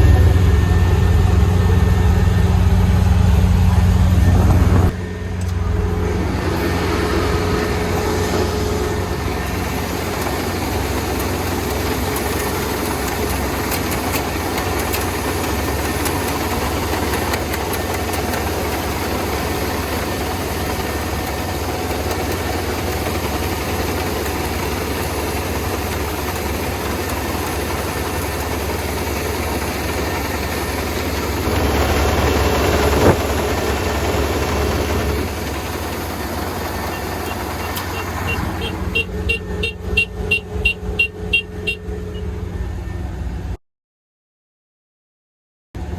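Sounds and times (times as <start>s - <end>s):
vehicle engine running: 0.0s - 43.6s.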